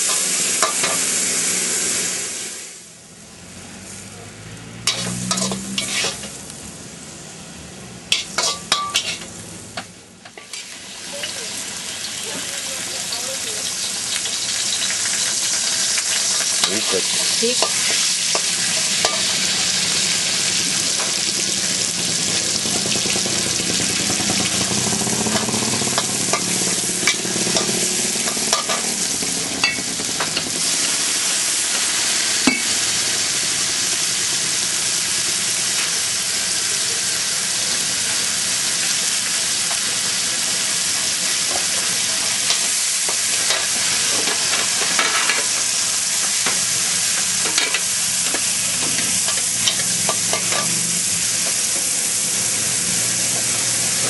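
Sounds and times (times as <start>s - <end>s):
pork sizzling in a pan: 0.0s - 54.0s.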